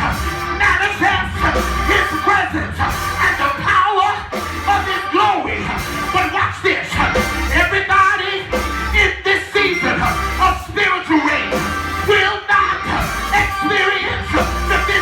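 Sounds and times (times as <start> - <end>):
gospel band playing: 0.0 - 15.0
person singing: 0.0 - 15.0.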